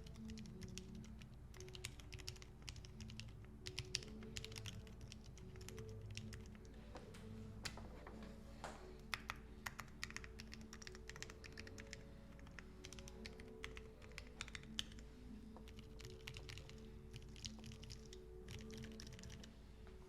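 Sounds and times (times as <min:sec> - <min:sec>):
quiet keyboard keystrokes: 0:00.0 - 0:19.5.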